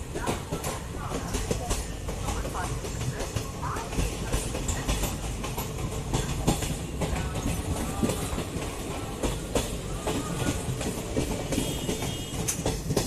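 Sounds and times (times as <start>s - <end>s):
train wheels rumbling on rail: 0.0s - 13.0s
wheels clicking over rail joints: 0.0s - 13.0s.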